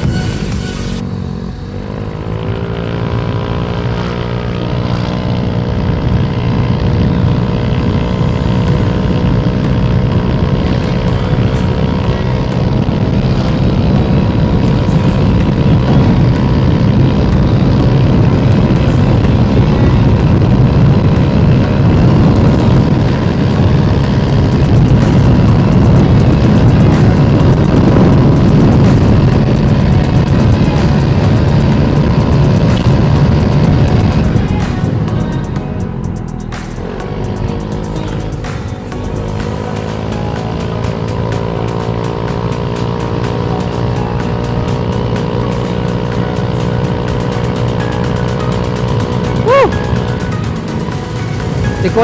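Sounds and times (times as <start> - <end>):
scooter engine at full throttle: 0.0 - 52.0
wind and road noise: 0.0 - 52.0.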